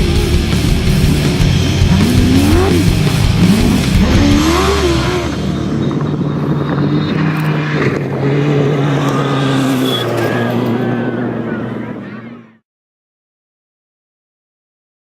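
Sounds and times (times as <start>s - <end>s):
off-road vehicle engine revving: 0.0s - 12.6s.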